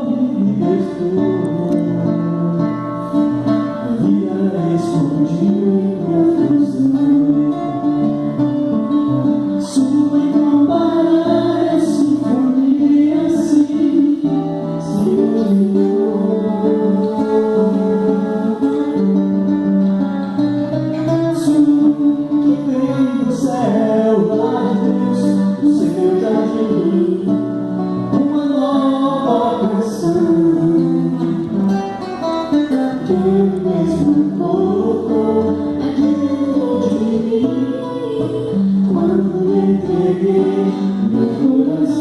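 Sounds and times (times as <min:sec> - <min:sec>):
people singing: 0:00.0 - 0:08.5, 0:09.3 - 0:20.0, 0:21.0 - 0:42.0
acoustic guitar: 0:00.0 - 0:42.0.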